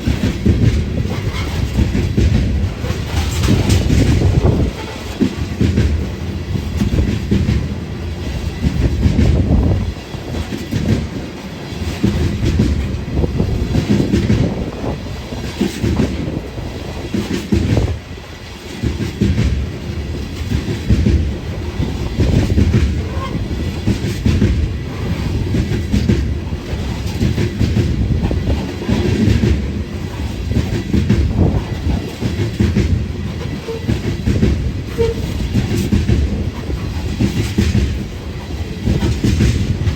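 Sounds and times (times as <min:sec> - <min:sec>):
train cars rumbling: 0:00.0 - 0:39.9
wheels clacking over rail joints: 0:00.0 - 0:39.9.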